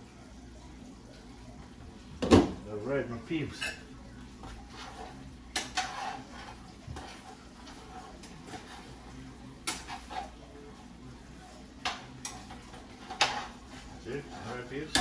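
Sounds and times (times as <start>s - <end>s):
faint steady hum: 0.0s - 15.0s
dishes and utensils clattering: 2.2s - 2.7s, 3.4s - 15.0s.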